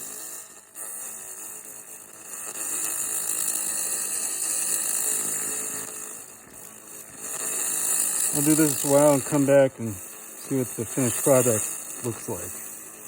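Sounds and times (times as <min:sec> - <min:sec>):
laser cleaner high-pitched hiss: 0:00.0 - 0:13.0.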